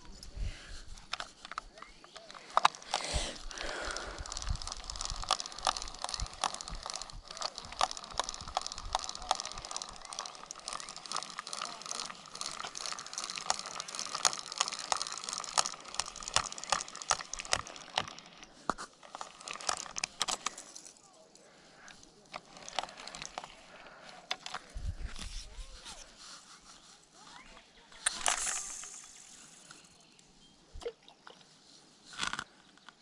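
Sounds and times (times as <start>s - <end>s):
faint reel whirr: 0.0s - 30.7s
hands rustling on reel: 0.0s - 33.0s
fishing reel clicking: 0.1s - 26.1s, 28.0s - 30.2s.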